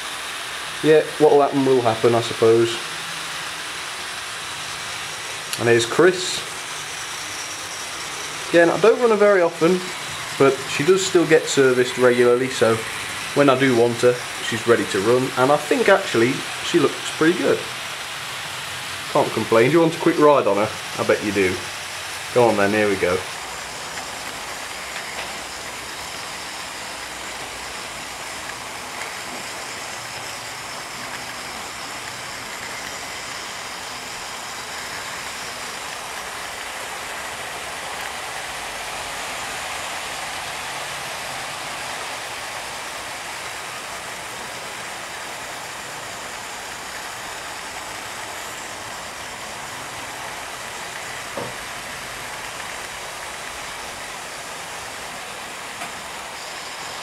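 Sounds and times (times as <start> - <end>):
model train running on track: 0.0 - 57.0.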